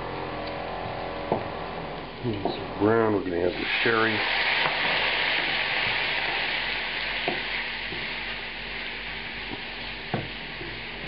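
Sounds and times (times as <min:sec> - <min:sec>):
vegetables sizzling in oil: 0:00.3 - 0:11.0.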